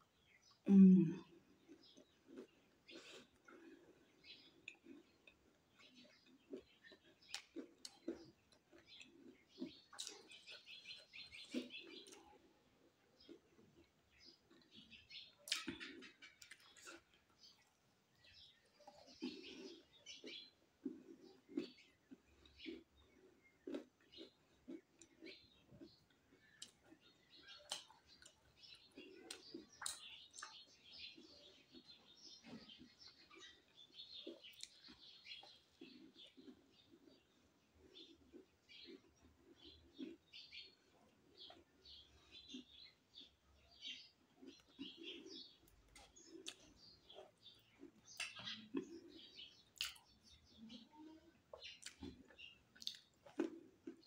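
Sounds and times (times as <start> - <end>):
faint birds chirping: 0.0 - 54.0
chewing mouth smacks: 1.7 - 12.5, 13.2 - 17.8, 18.8 - 50.3, 51.5 - 54.0.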